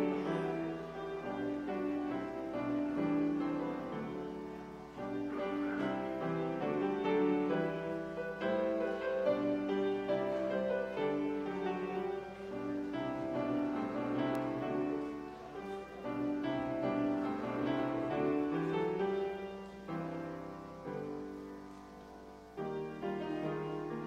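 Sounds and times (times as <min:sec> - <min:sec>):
slow piano music: 0:00.0 - 0:24.0.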